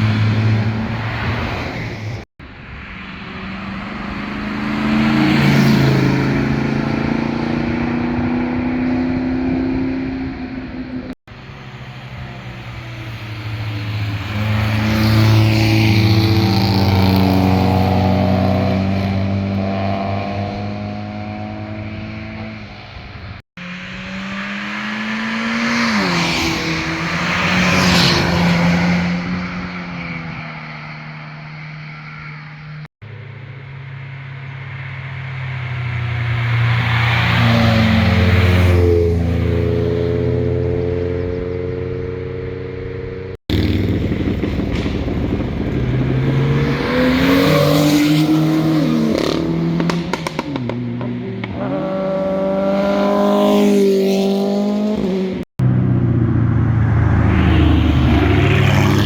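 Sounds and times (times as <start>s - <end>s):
sports cars driving past: 0.0s - 59.0s.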